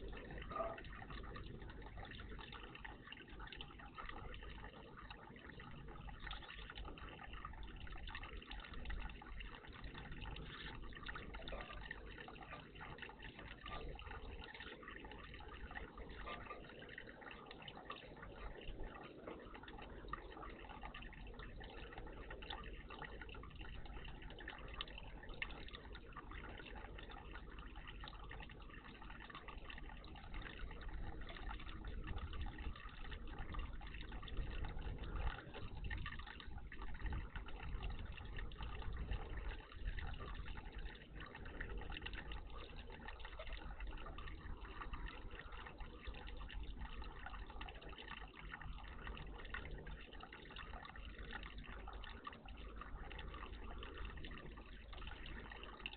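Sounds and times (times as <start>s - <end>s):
water trickling and dripping: 0.0s - 55.9s.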